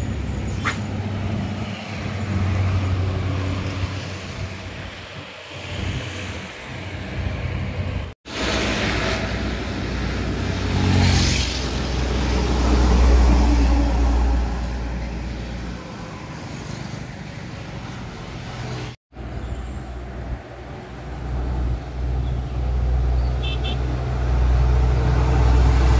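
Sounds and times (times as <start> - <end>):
road traffic: 0.0 - 25.9
truck passing by: 0.0 - 25.9.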